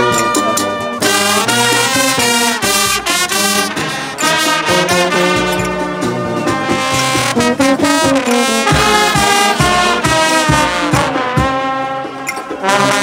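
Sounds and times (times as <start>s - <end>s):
brass band playing: 0.0s - 13.0s
drum strokes: 0.0s - 13.0s.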